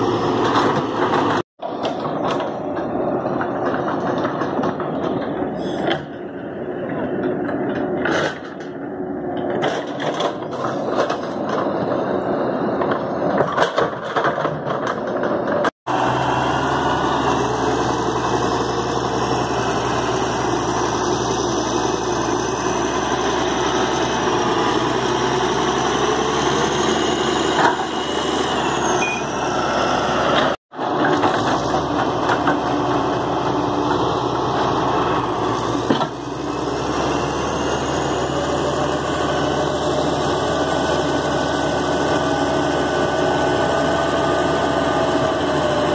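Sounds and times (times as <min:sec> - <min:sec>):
diesel engines running under load: 0:00.0 - 0:45.9.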